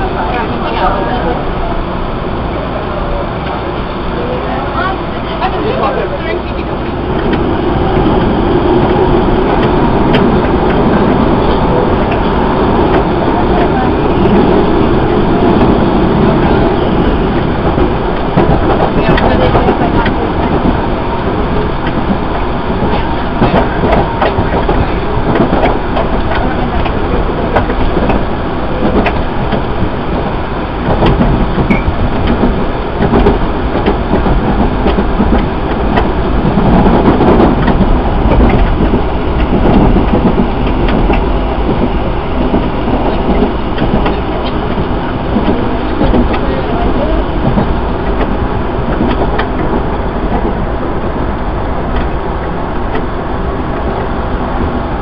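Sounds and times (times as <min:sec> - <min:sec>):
subway wheel and rail noise: 0:00.0 - 0:55.0
sharp track clicks: 0:06.5 - 0:54.9.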